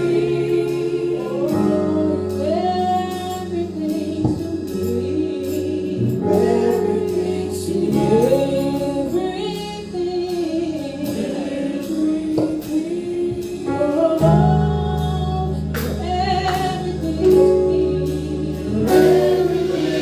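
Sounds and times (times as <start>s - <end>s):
choir and congregation singing: 0.0s - 20.0s
instrumental backing: 0.0s - 20.0s.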